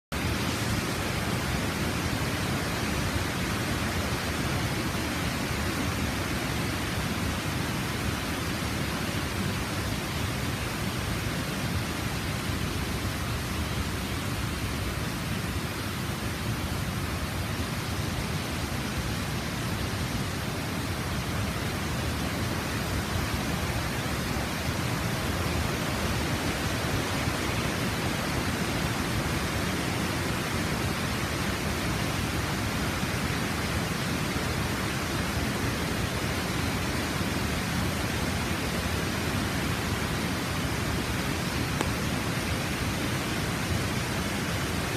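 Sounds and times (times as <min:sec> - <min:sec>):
white water rushing in cascades: 0:00.2 - 0:44.9.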